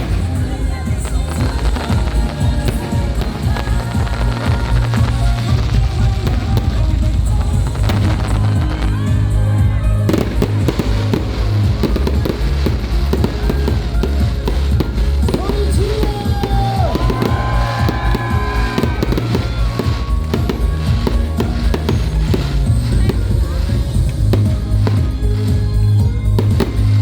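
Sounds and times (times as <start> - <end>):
fireworks cracking and popping: 0.0 - 27.0
music with bass line: 0.0 - 27.0.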